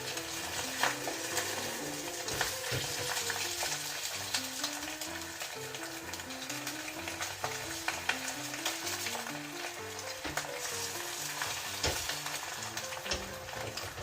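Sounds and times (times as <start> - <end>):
background music: 0.0 - 14.0
sizzling in a frying pan: 0.0 - 14.0.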